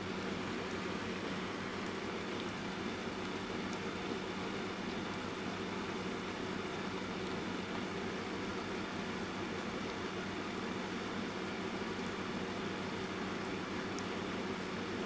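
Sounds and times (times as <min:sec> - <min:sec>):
electric fan running: 0:00.0 - 0:15.0
soft rain: 0:00.0 - 0:15.0.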